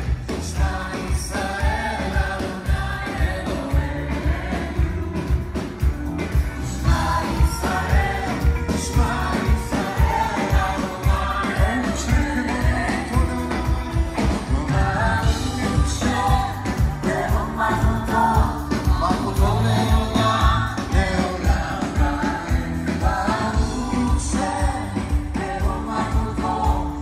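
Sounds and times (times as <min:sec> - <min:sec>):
electric bass: 0:00.0 - 0:27.0
steady drum beat: 0:00.0 - 0:27.0
worship band music with singing: 0:00.0 - 0:27.0.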